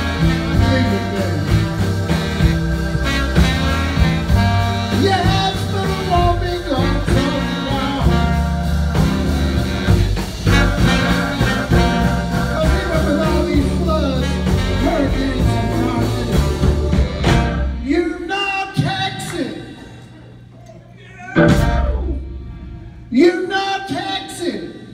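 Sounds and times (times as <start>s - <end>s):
live blues band playing: 0.0s - 20.0s, 21.2s - 23.5s.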